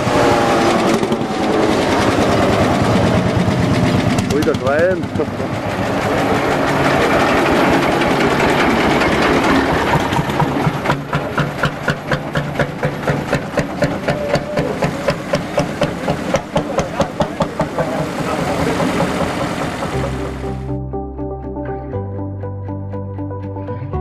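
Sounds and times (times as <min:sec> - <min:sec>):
vintage engine chugging: 0:00.0 - 0:20.7.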